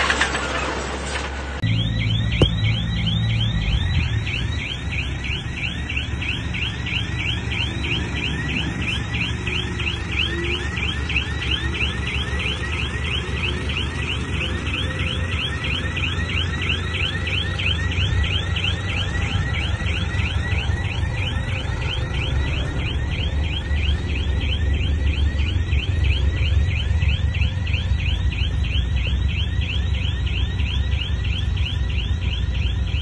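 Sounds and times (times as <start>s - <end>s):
heavy diesel engine running: 0.0s - 33.0s
reversing alarm chirps: 1.6s - 33.0s.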